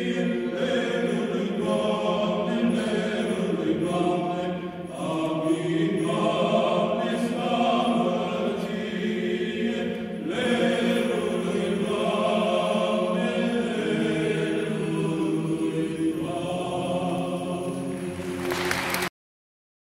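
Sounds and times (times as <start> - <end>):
male choir singing a cappella: 0.0 - 18.4.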